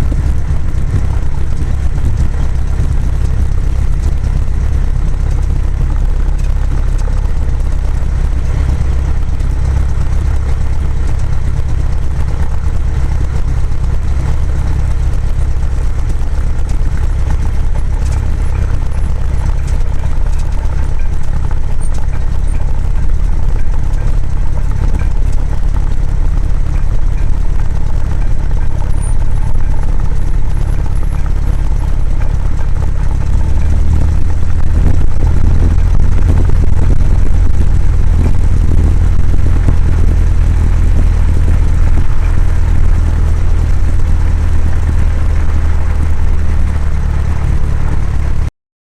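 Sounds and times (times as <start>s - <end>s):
propeller plane engine droning: 0.0s - 48.5s.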